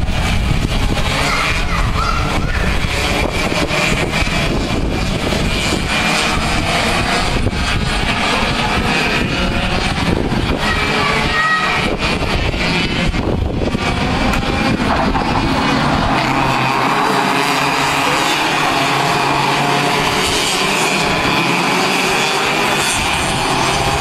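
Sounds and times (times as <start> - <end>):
racing kart engines whining: 0.0 - 24.0.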